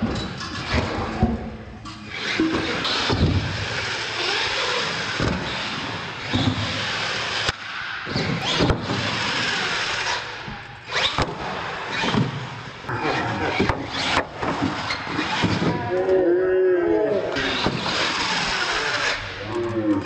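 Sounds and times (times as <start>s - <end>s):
electric motors whining: 2.0s - 7.5s, 8.3s - 20.0s.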